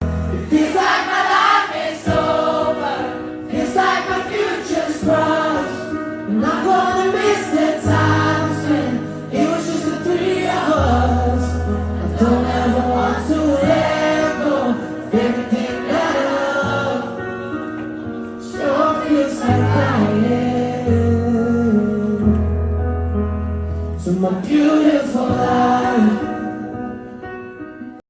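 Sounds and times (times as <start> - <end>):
song with sung vocals: 0.1 - 22.6, 24.0 - 27.1.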